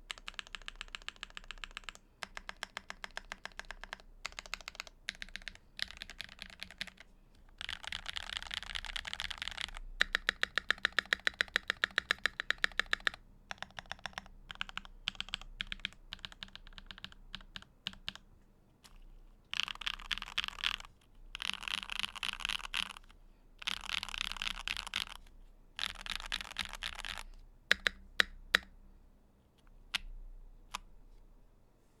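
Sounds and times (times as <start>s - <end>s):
typing on mechanical keyboard: 0.0s - 18.2s, 19.5s - 23.0s, 23.6s - 25.2s, 25.8s - 28.7s.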